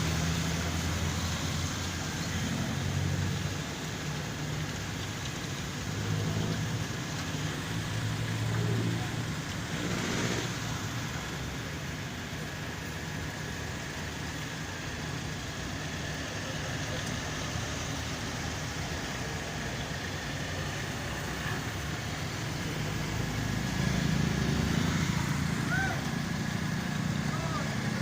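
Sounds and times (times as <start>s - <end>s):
car engine idling: 0.0s - 28.0s
street noise: 0.0s - 28.0s.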